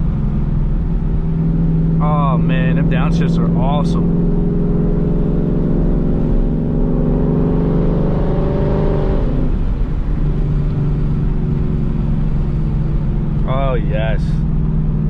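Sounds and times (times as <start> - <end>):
car engine deep exhaust note: 0.0 - 15.0.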